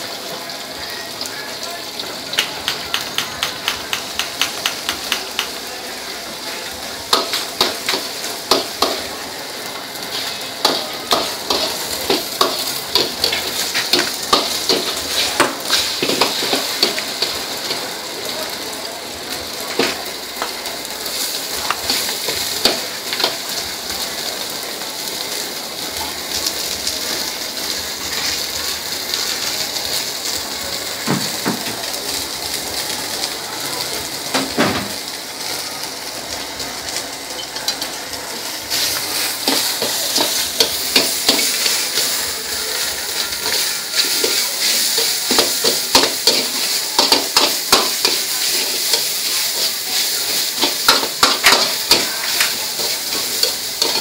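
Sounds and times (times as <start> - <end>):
egg sizzling in hot oil: 0.0 - 54.0.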